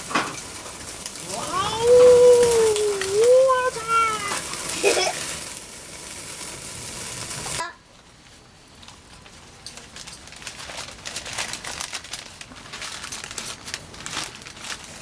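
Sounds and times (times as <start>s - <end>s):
packaging crinkling: 0.0s - 7.6s, 8.8s - 15.0s.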